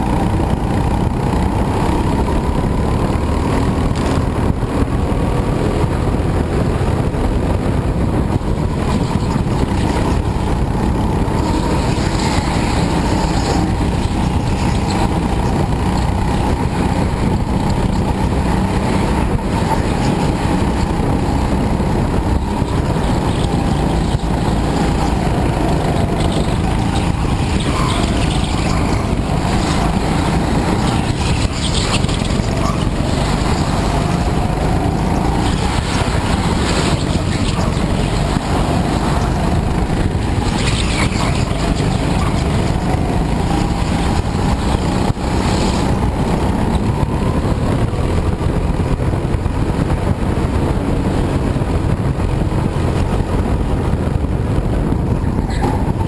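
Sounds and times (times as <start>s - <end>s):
loud rushing noise: 0.0s - 50.2s
go-kart engine running hard: 0.0s - 56.0s.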